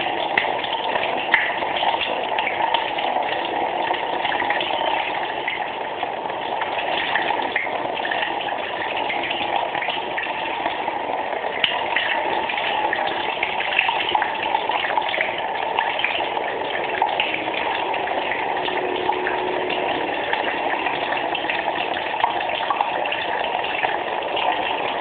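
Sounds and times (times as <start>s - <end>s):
tap water running: 0.0s - 25.0s.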